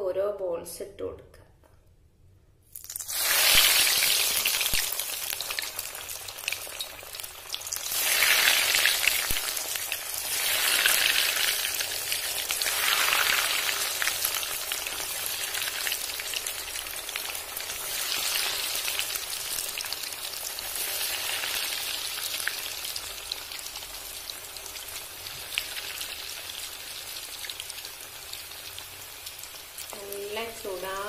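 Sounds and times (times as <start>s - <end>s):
hot oil sizzling and crackling: 2.7s - 31.0s.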